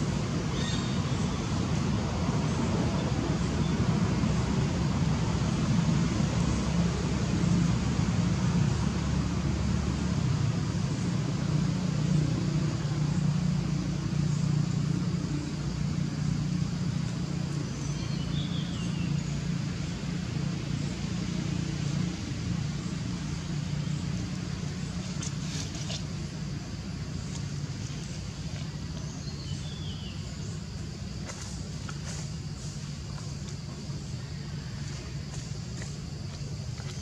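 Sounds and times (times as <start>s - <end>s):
engine humming: 0.0s - 37.0s.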